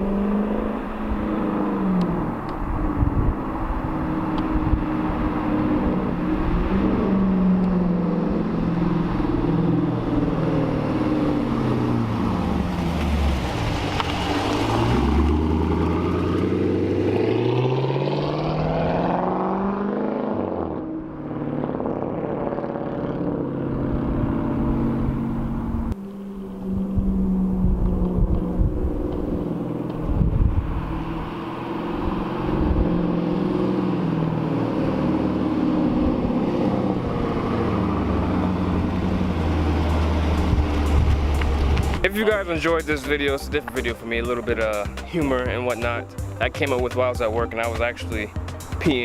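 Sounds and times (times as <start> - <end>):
car exhaust rumbling: 0.0 - 19.8, 20.4 - 49.0.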